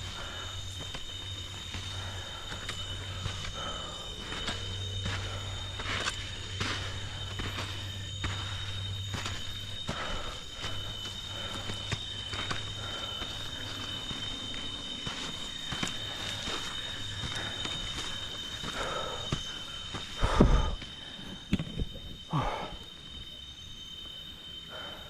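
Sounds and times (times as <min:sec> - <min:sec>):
high-pitched insect drone: 0:00.0 - 0:25.0.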